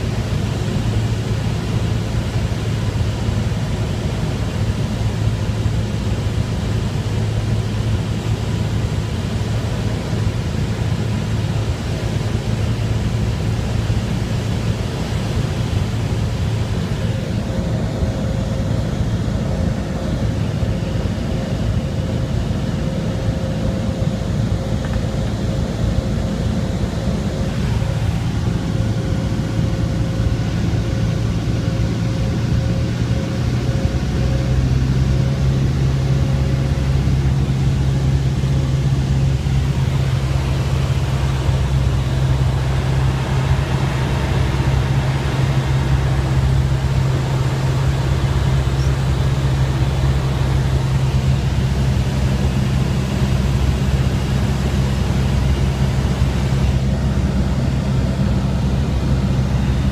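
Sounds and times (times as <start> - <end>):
airplane engine droning in cabin: 0.0 - 59.9.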